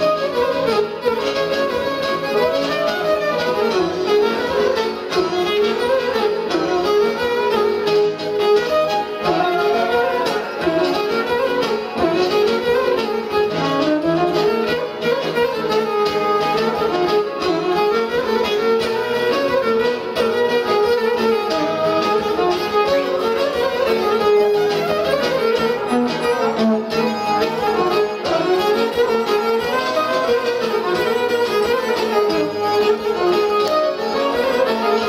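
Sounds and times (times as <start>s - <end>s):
folk violin dance melody: 0.0s - 35.0s
lute and keyboard accompaniment: 0.0s - 35.0s.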